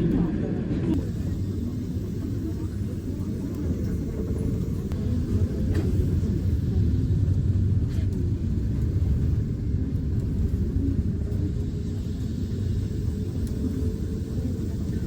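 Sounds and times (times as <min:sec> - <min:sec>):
train wheels rumbling on rails: 0:00.2 - 0:15.0.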